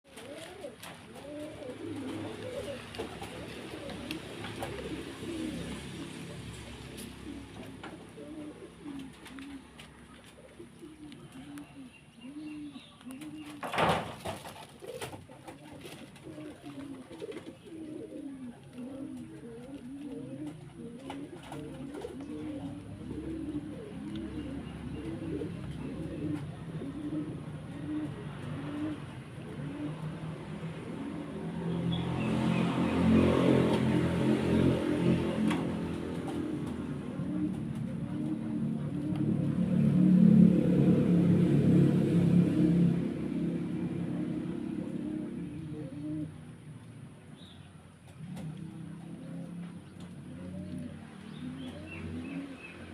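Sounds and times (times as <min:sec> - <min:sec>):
birds cooing: 0:00.0 - 0:52.9.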